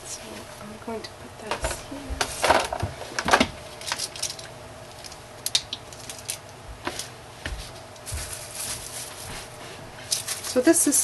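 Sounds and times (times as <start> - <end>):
plastic and paper crackling: 1.4 - 7.2, 7.9 - 11.0.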